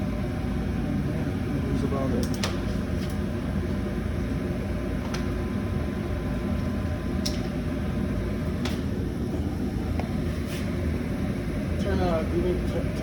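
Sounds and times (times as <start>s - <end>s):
hvac equipment humming: 0.0s - 13.0s.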